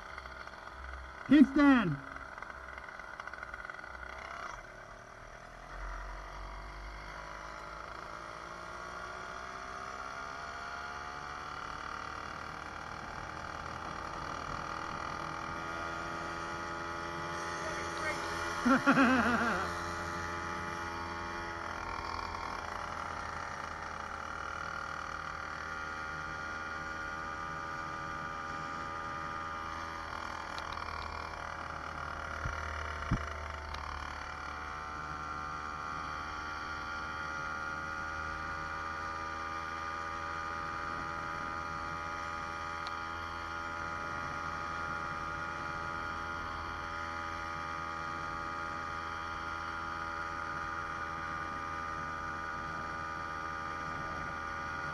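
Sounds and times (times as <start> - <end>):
two-stroke engine running: 0.0 - 54.9.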